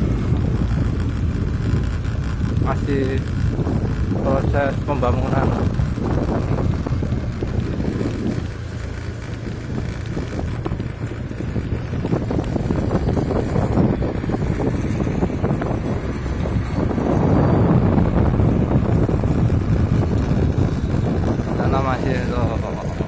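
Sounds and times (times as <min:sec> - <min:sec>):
low vehicle rumble: 0:00.0 - 0:23.0
wind buffeting microphone: 0:00.0 - 0:23.0.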